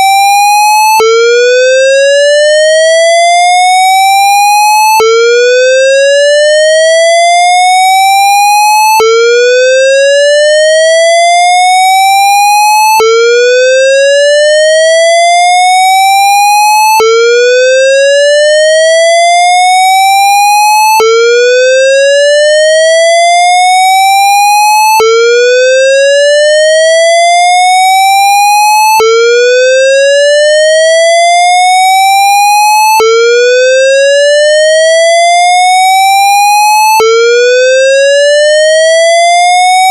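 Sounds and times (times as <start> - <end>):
synthesized fire alarm whoop: 0.0 - 39.9.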